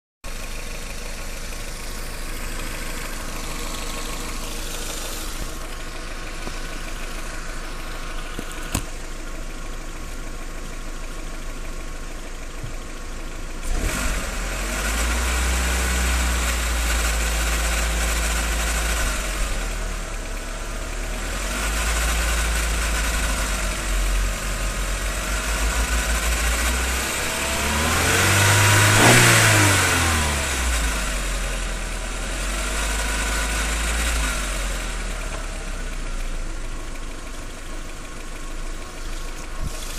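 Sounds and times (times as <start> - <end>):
car engine idling and revving: 0.2 - 39.9.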